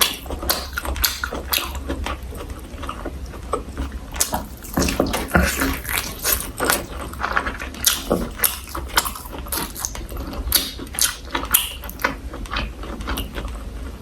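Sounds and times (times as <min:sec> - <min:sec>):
mouth clicks: 0:00.0 - 0:02.8, 0:03.4 - 0:13.4
chewing and crunching crisp food: 0:00.0 - 0:14.0.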